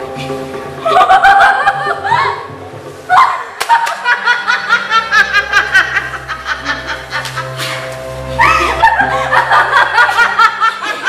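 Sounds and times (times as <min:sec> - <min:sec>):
woman laughing loudly: 0:00.8 - 0:02.5, 0:03.1 - 0:11.0.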